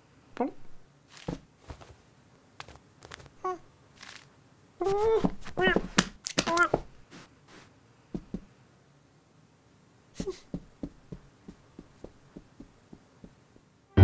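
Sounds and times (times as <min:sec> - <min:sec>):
cartoon cat footsteps: 0:00.6 - 0:08.5, 0:10.2 - 0:14.0.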